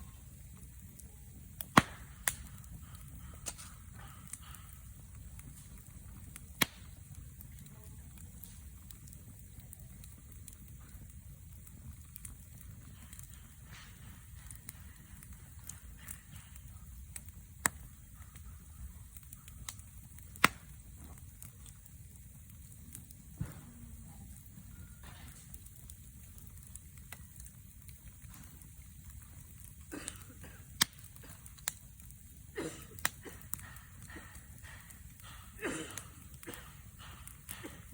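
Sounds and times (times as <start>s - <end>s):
campfire crackling: 0.0s - 37.9s
low steady rumble: 0.0s - 37.9s.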